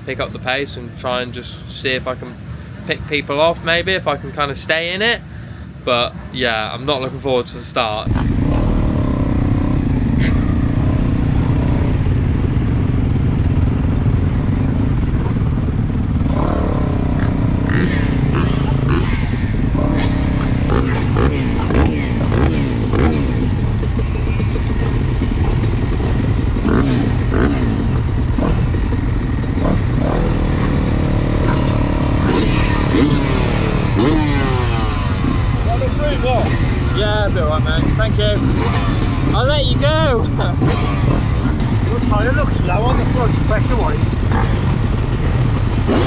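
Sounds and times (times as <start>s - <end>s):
motocross bike engine running: 8.1s - 46.0s.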